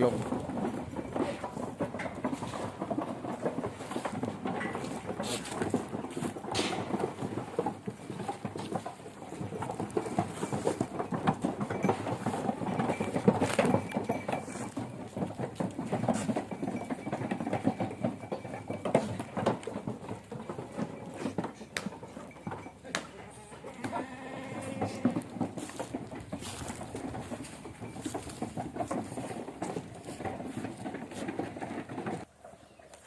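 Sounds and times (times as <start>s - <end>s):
goats clattering and shuffling: 0.0s - 33.0s.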